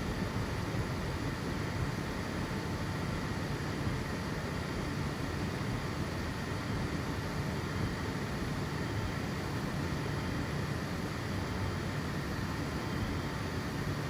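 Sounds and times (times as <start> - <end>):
printer fans and motors whirring: 0.0 - 14.0.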